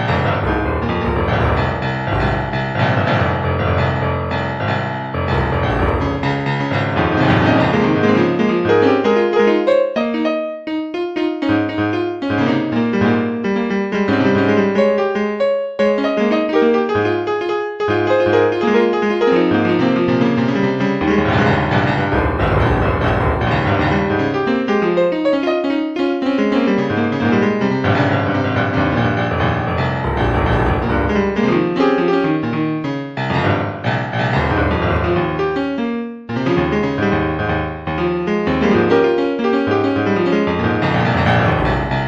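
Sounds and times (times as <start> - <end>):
piano music: 0.0 - 42.0.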